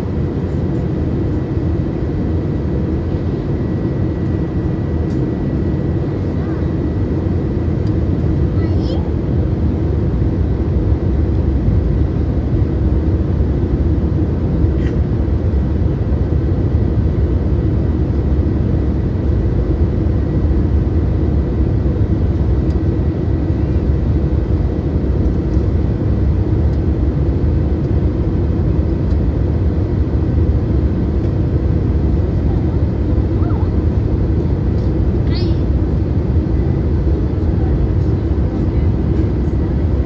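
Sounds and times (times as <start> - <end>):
aircraft cabin engine drone: 0.0 - 40.0.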